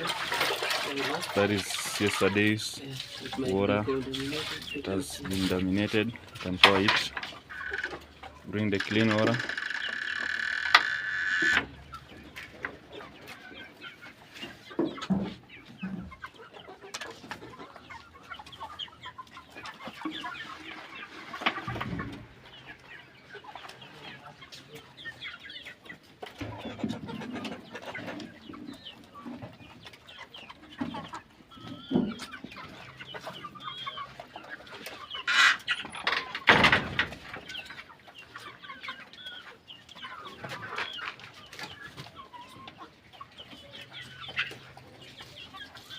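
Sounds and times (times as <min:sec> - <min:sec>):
young chickens clucking: 0:00.0 - 0:45.9.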